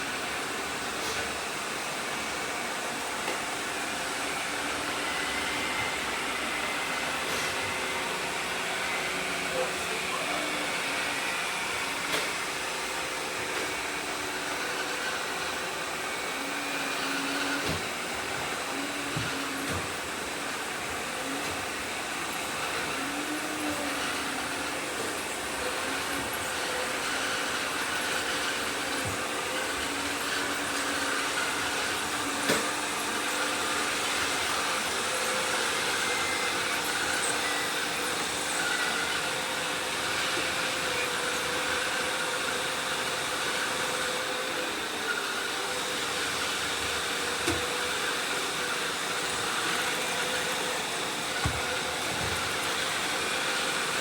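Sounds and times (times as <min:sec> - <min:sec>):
robot vacuum cleaners whirring: 0:00.0 - 0:54.0.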